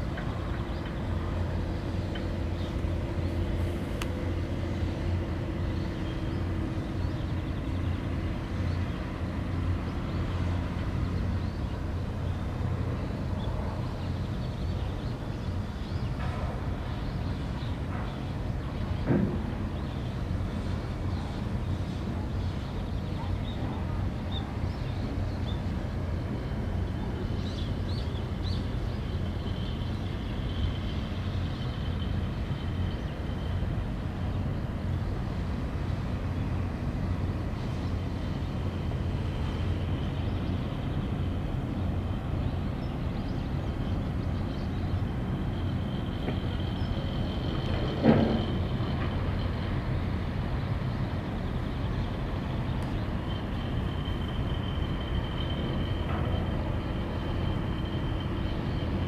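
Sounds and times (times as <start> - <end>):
low outdoor rumble: 0.0 - 59.0.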